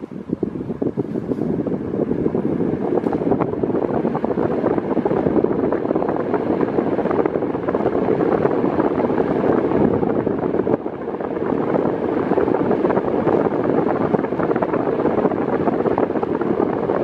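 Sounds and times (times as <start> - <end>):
table fan airflow rushing: 0.0 - 17.0.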